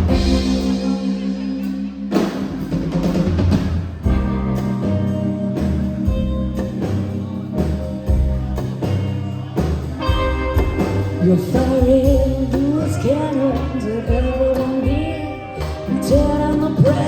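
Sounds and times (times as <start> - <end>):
drum kit: 0.0 - 17.0
live band playing: 0.0 - 17.0.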